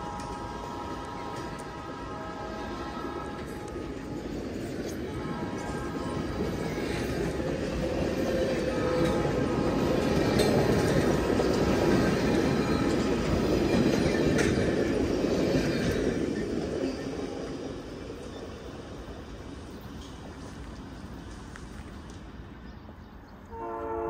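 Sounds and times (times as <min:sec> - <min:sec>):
train wheels running on rails: 0:00.0 - 0:24.0.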